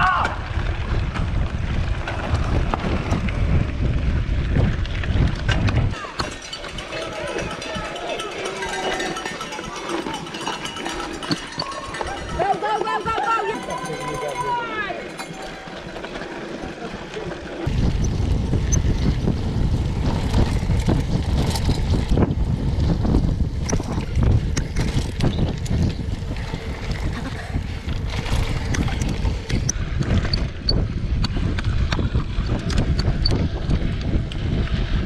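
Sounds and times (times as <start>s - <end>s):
bike tyre rumble on dirt: 0.0s - 12.4s, 15.4s - 35.0s
wind buffeting microphone: 0.0s - 14.7s, 17.6s - 35.0s
bike knocks and rattles: 0.1s - 13.8s, 17.6s - 34.7s.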